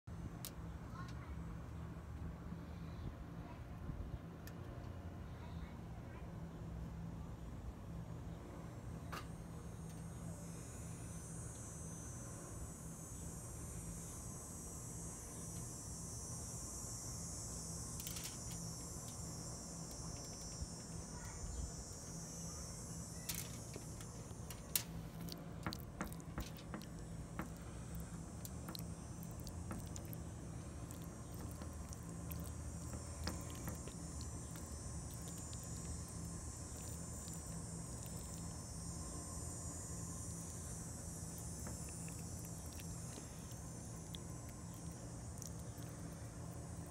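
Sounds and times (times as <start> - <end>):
low hum: 0.1 - 46.9
insects chirping: 6.9 - 46.9.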